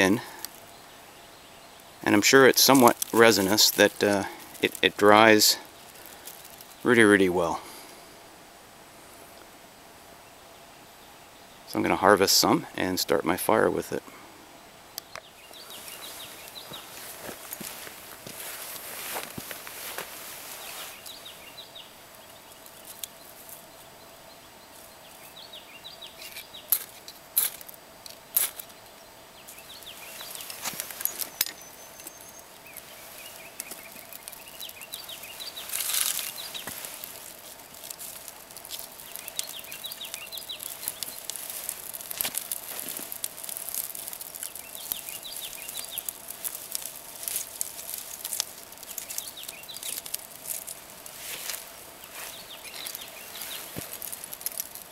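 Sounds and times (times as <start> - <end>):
twigs snapping and crackling: 0.0 - 0.8, 1.7 - 7.3, 14.9 - 23.8, 25.0 - 54.9
faint birds chirping: 0.0 - 54.9.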